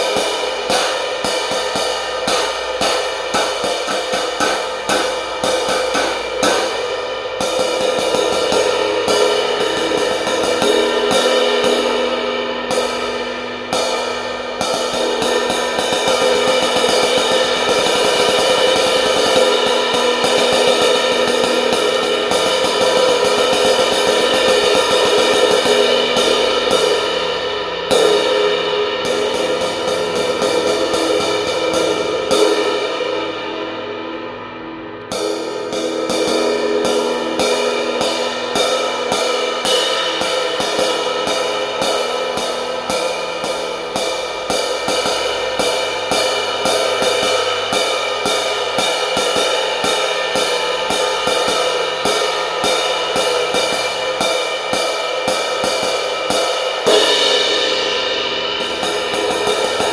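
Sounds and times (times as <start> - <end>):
crash cymbal played with drumsticks: 0.0 - 59.9.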